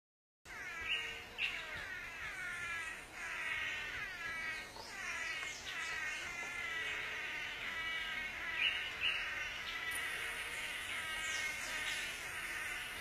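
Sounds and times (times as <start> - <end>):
birds calling with falling pitch: 0.5 - 13.0.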